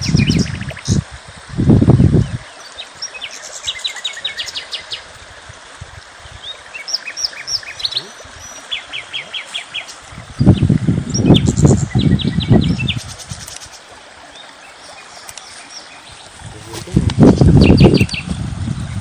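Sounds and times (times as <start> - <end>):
songbirds chirping and trilling: 1.9 - 5.1, 6.1 - 19.0.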